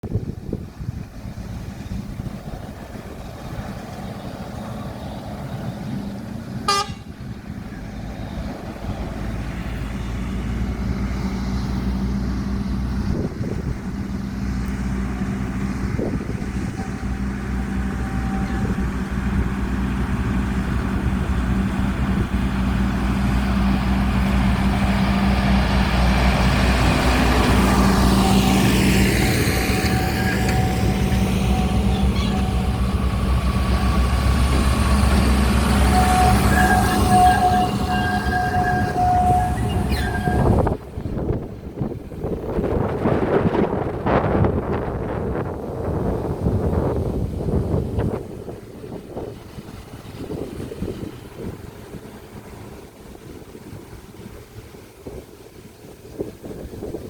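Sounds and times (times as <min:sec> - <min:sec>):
diesel locomotive engine hum: 0:00.0 - 0:57.0.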